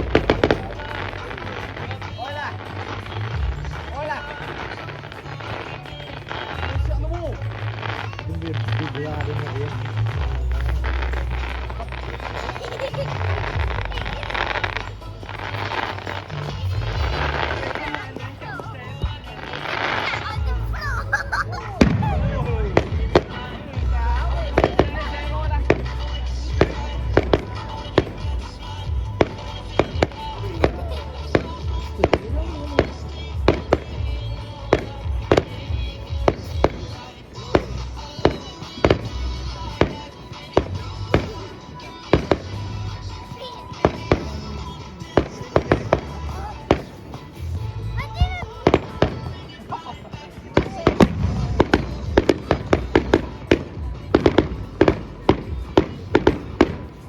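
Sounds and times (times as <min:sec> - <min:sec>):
fireworks banging: 0:00.0 - 0:57.0
music with steady bass line: 0:00.0 - 0:57.0.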